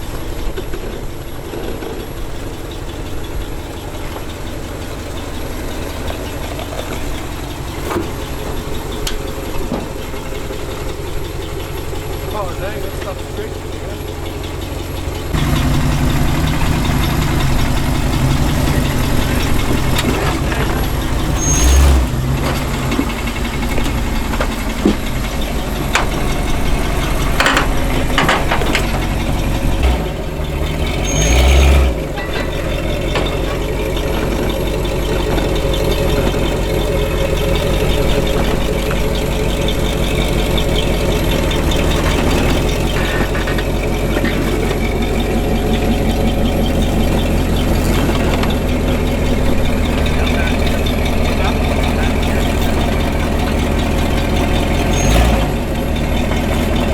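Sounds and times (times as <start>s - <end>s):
off-road vehicle engine running: 0.0s - 56.9s
vehicle bumps: 0.0s - 56.9s.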